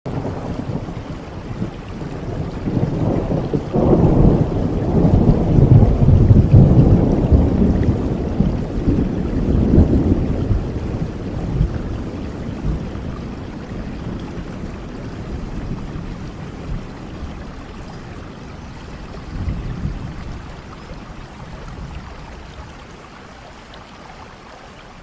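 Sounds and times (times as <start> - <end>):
thunder rumbling: 0.1 - 23.0
rain falling on leaves: 0.1 - 25.0.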